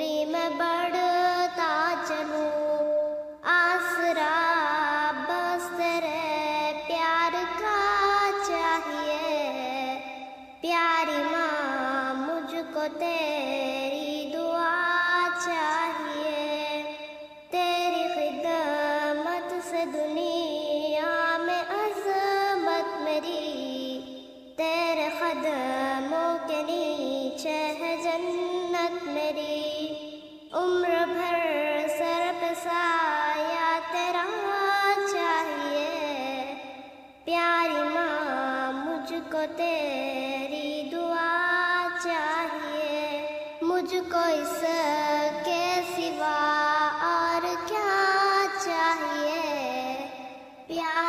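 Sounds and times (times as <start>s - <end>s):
child singing: 0.0s - 51.0s.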